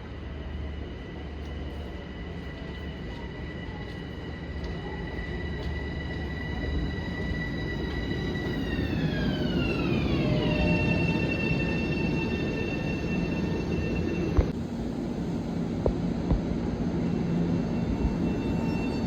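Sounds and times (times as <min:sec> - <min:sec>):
train wheels rumbling on rail: 0:00.0 - 0:19.0
electric train motor whine: 0:00.3 - 0:16.2, 0:16.8 - 0:19.0.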